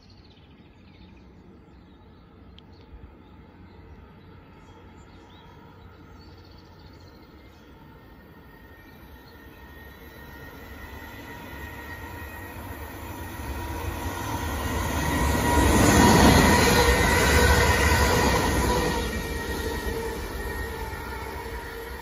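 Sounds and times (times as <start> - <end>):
train passing at speed: 0.6 - 22.0
wheels rumbling on rails: 2.4 - 22.0.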